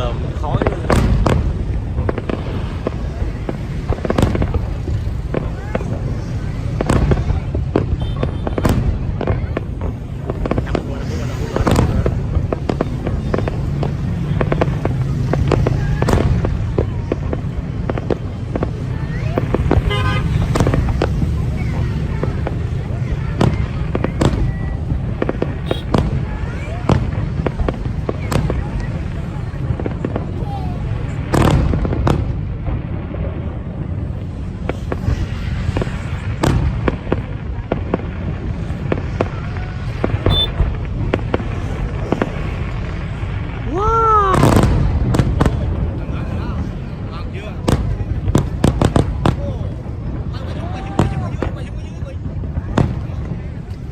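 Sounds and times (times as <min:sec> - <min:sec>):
fireworks bangs and crackles: 0:00.0 - 0:53.9
steady low rumble: 0:00.0 - 0:53.9.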